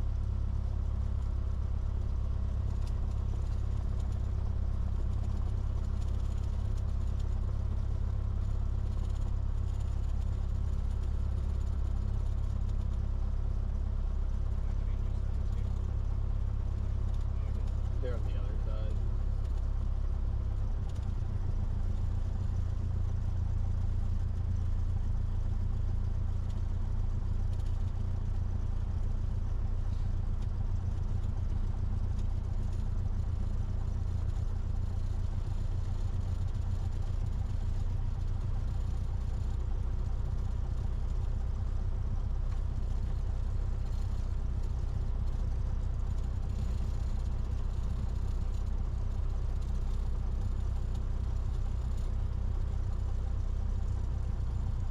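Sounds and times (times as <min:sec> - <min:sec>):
propeller plane engine drone: 0:00.0 - 0:54.9.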